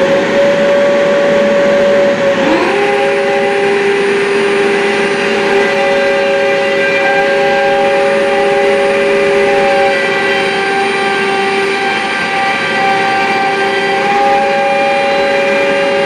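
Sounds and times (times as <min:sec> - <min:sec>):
dust extractor motor whine: 0:00.0 - 0:16.0
router motor whining: 0:00.0 - 0:16.0.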